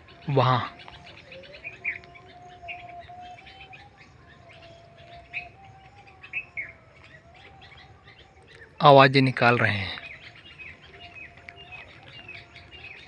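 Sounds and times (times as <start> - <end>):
faint wavering drone: 0.0 - 13.0
wild birds chirping: 0.0 - 13.0.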